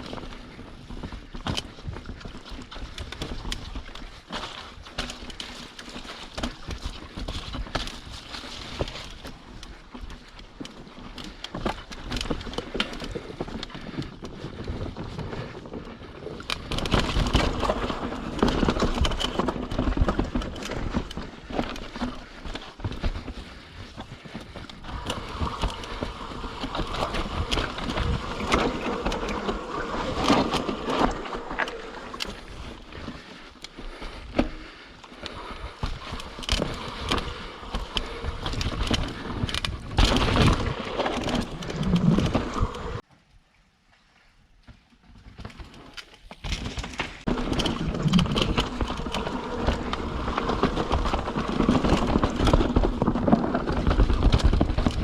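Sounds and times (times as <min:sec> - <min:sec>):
bike knocking and rattling: 0:00.0 - 0:43.1, 0:44.7 - 0:55.0
bike tyres rolling on dirt: 0:00.0 - 0:43.1, 0:44.3 - 0:55.0.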